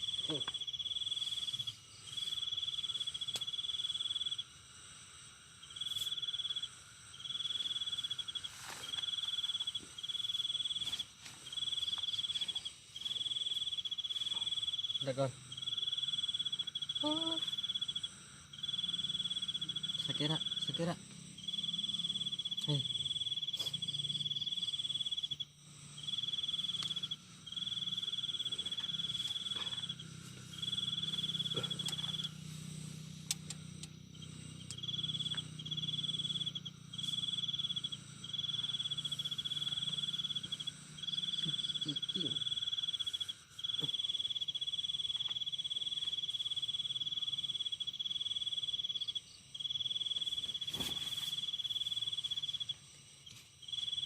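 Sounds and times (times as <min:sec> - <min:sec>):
faint low hum: 0:00.0 - 0:54.0
high insect trill: 0:00.0 - 0:54.0
insect chorus: 0:00.0 - 0:54.0.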